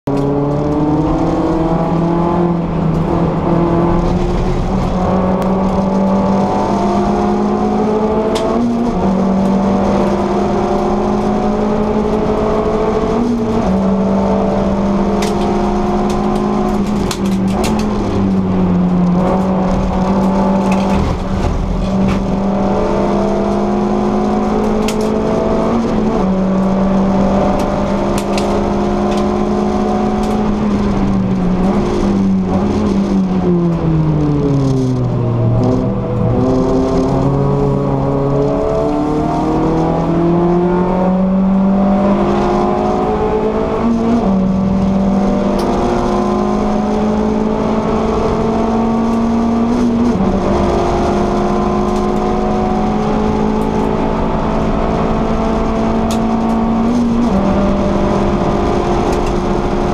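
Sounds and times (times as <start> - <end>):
car engine at high revs: 0.0 - 59.9
road noise: 0.0 - 59.9.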